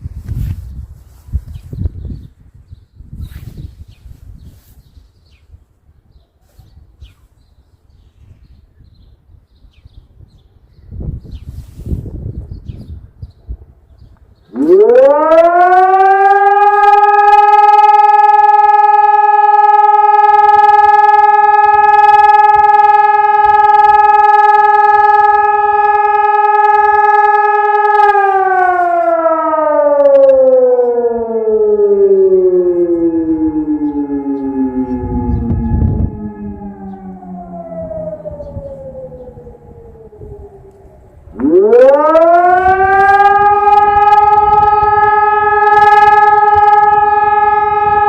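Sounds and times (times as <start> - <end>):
civil defence siren: 0.0 - 48.0.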